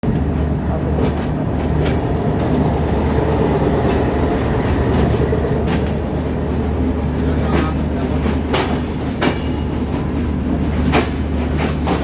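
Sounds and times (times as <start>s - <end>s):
train rumbling: 0.0s - 12.0s
wheels clicking over rails: 0.0s - 12.0s.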